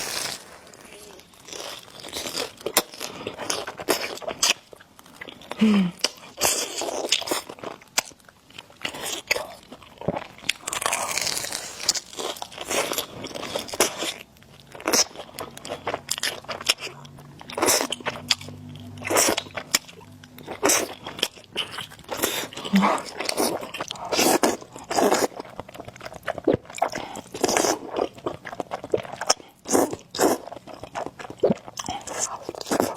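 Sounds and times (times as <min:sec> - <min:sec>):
person chewing noodles: 0:00.0 - 0:32.9.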